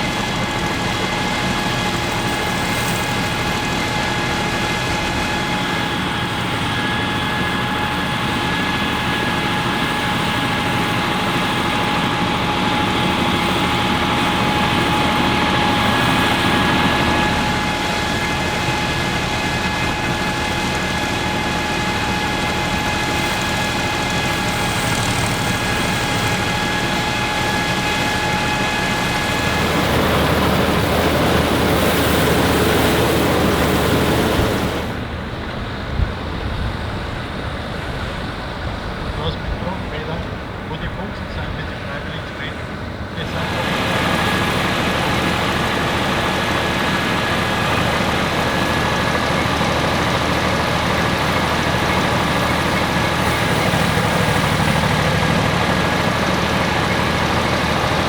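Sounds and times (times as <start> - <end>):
steady high whine: 0.0 - 36.6, 38.6 - 58.0
tractor and combine running: 0.0 - 58.0.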